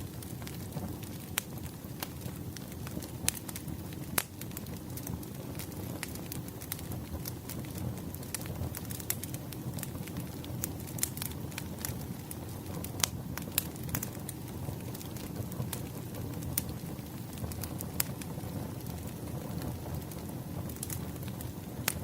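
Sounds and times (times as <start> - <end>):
logs crackling and popping: 0.0 - 22.0
low steady flame noise: 0.0 - 22.0.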